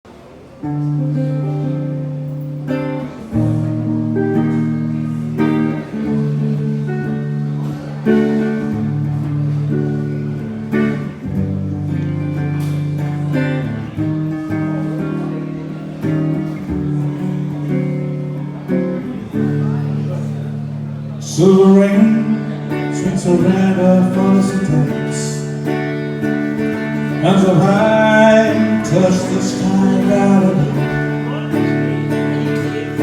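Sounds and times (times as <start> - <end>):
guitar strumming chords: 0.6 - 33.0.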